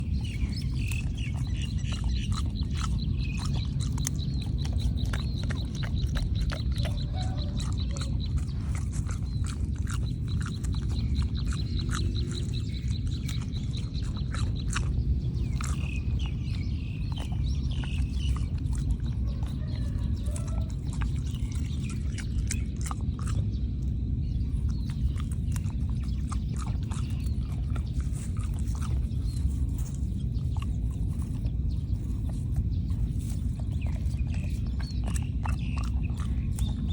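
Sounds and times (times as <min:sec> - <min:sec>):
animal chewing grass: 0:00.0 - 0:36.9
low rumble: 0:00.0 - 0:36.9.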